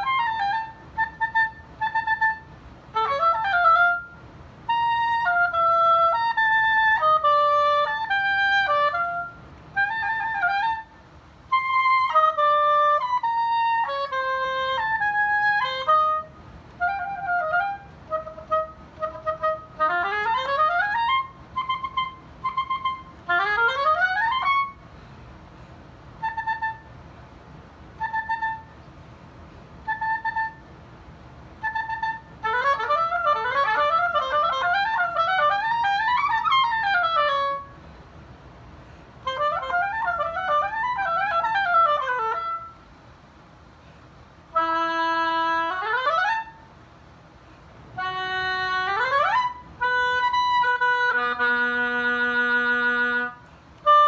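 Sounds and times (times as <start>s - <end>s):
solo oboe playing: 0.0s - 54.0s.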